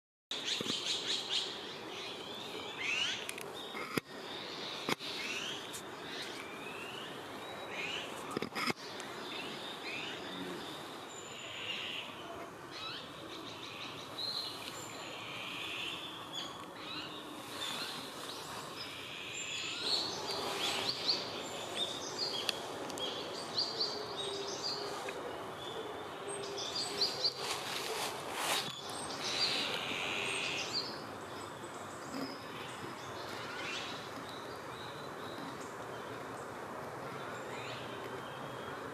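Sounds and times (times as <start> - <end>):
small birds chirping: 0.3 - 38.9.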